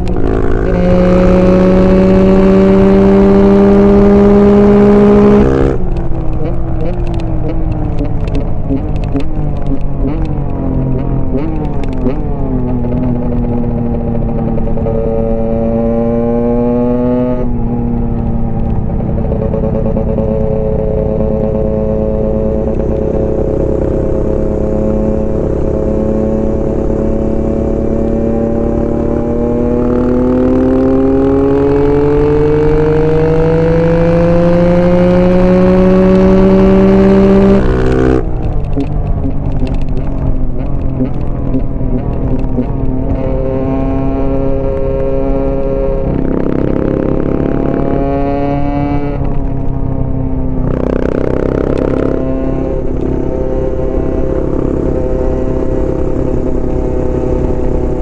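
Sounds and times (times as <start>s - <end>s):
dirt bike engine accelerating: 0.0s - 58.0s.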